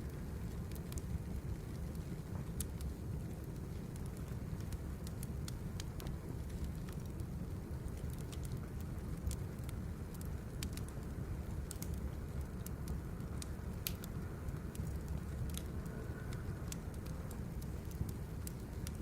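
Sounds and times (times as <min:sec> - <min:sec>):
logs crackling in a fire: 0:00.0 - 0:19.0.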